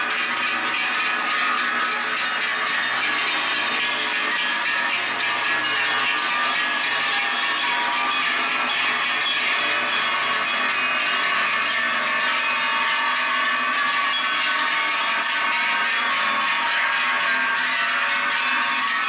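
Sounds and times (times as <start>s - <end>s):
cowbells clanging: 0.0s - 19.0s.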